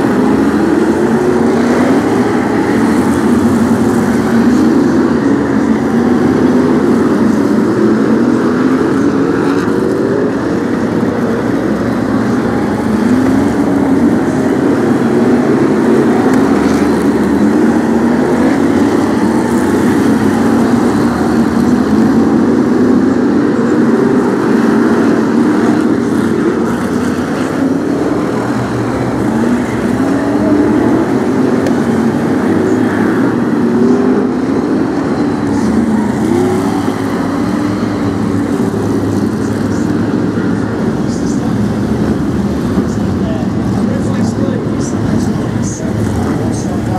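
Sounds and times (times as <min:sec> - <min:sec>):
racing car engines: 0:00.0 - 0:46.9.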